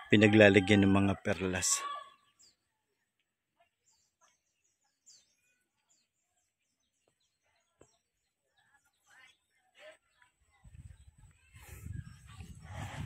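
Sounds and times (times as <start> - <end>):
faint bird chirps: 1.6 - 12.9.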